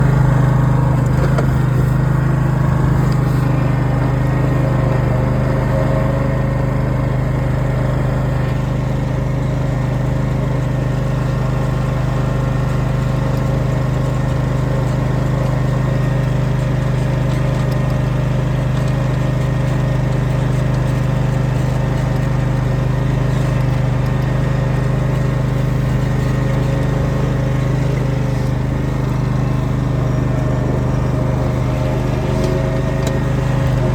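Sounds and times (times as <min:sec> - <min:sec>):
ride-on mower engine humming: 0:00.0 - 0:33.9.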